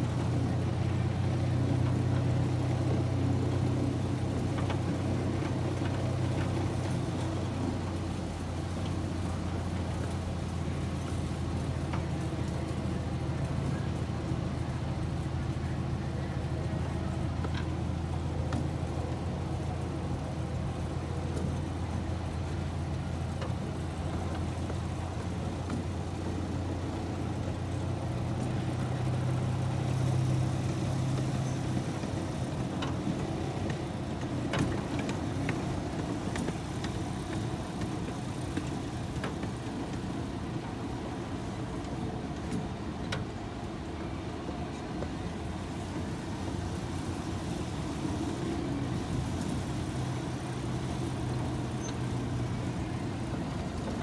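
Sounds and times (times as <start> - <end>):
miniature train engine drone: 0.0 - 54.0.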